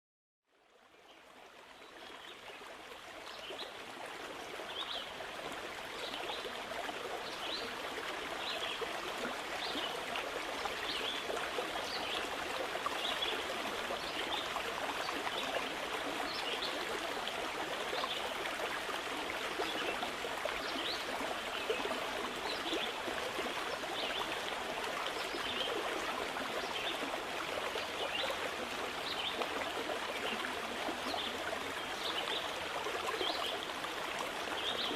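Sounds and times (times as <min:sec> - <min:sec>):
stream water flowing: 0:00.5 - 0:34.9.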